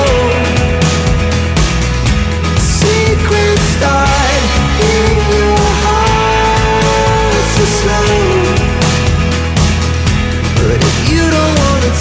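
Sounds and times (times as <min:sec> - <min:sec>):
rock music with vocals: 0:00.0 - 0:12.0.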